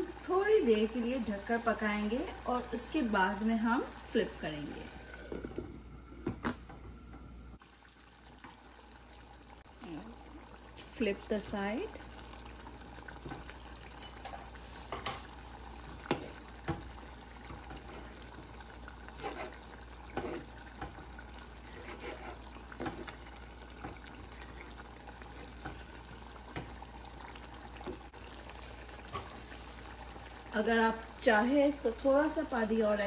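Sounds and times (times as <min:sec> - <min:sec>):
gravy simmering hiss: 0:00.0 - 0:33.0.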